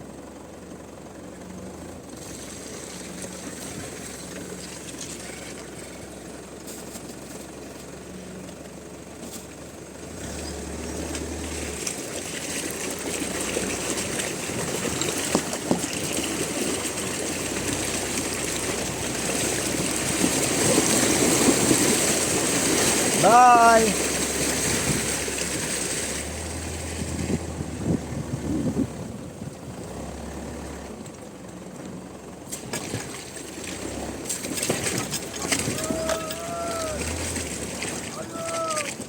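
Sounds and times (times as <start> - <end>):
vehicle engine driving off: 0.0 - 39.0.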